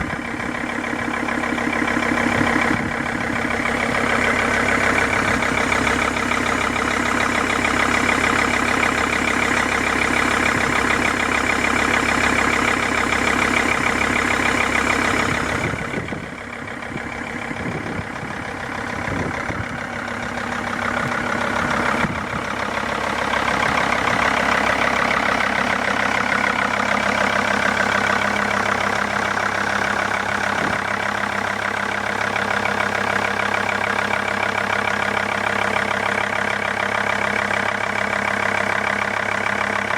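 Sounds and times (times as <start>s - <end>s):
car engine idling with knock: 0.0s - 39.9s.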